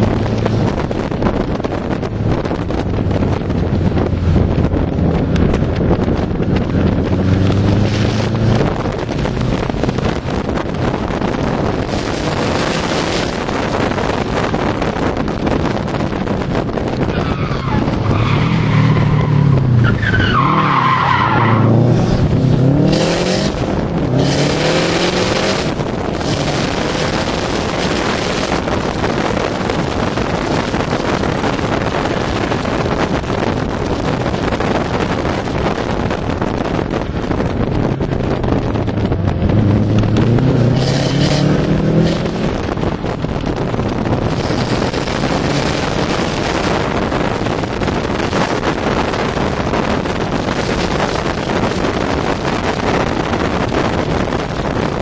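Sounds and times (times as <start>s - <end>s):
car engine revving: 0.0s - 55.0s
road noise: 0.0s - 55.0s
wind rushing past car window: 0.0s - 55.0s.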